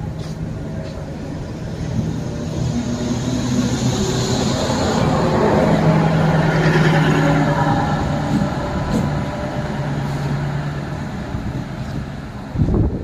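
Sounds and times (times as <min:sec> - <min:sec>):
train low hum: 0:00.0 - 0:13.0
wheels rumbling on rail: 0:00.0 - 0:13.0.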